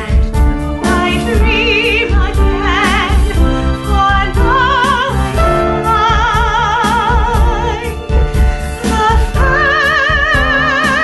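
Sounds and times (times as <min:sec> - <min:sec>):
woman singing operatically: 0:00.8 - 0:11.0.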